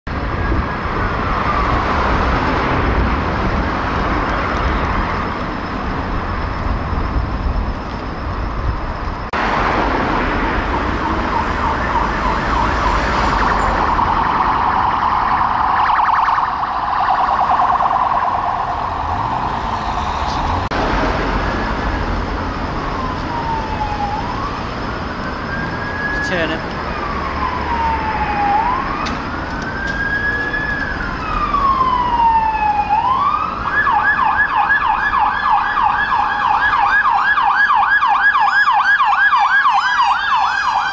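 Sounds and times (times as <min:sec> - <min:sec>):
city traffic: 0:00.0 - 0:40.9
police sirens wailing and yelping: 0:00.2 - 0:06.4, 0:09.3 - 0:40.9.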